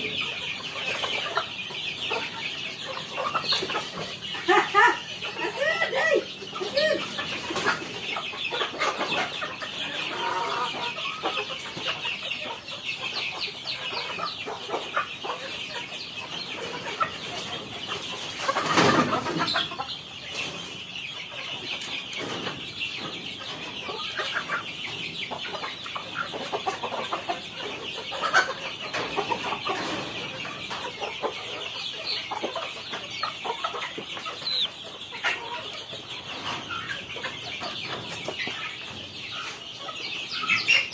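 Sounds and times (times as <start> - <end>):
chicks peeping and clucking: 0.0 - 40.9.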